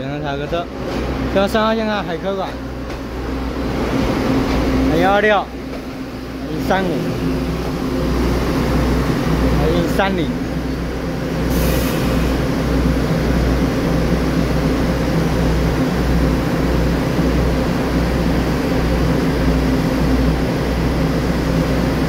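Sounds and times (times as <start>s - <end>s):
diesel engine idling drone: 2.1s - 21.9s.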